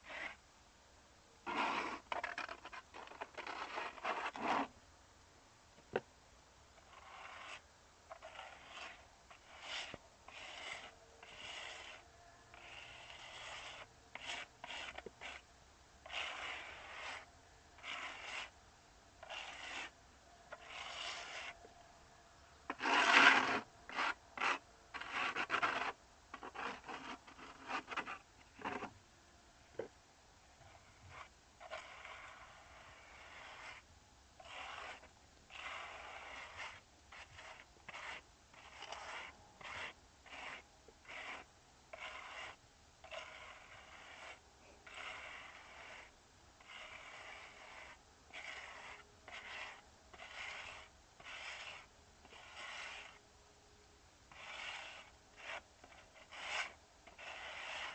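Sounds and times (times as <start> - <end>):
scraping and rubbing strokes: 0.0 - 0.4, 1.4 - 4.8, 6.8 - 18.6, 19.2 - 21.7, 22.7 - 29.0, 30.6 - 53.2, 54.3 - 57.9.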